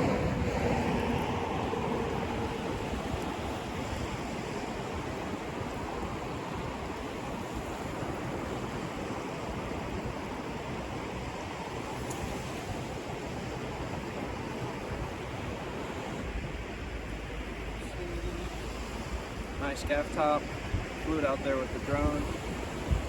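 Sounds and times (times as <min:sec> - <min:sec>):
ocean surf washing onto beach: 0:00.0 - 0:23.0.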